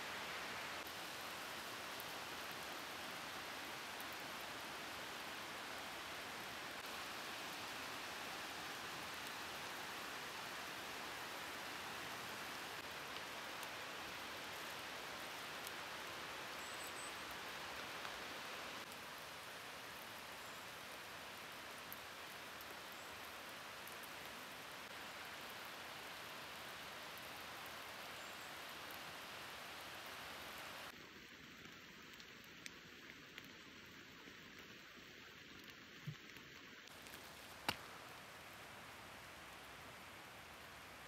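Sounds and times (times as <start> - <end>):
light rain on foliage: 0.0 - 41.0.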